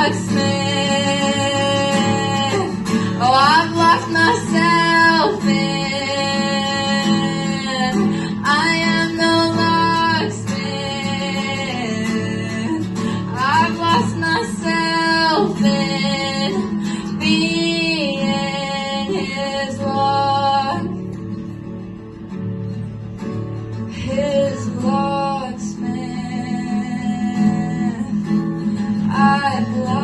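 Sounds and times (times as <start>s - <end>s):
woman singing wordless notes: 0.0s - 21.1s, 24.0s - 30.0s
acoustic guitar: 0.0s - 30.0s.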